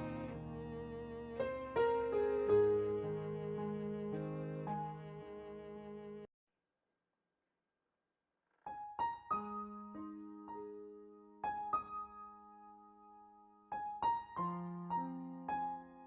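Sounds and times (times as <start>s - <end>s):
slow keyboard melody: 0.0s - 6.3s, 9.3s - 16.0s.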